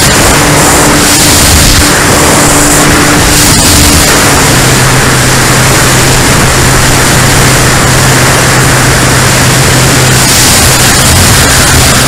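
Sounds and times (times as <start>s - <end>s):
wind rushing across microphone: 0.0s - 12.0s.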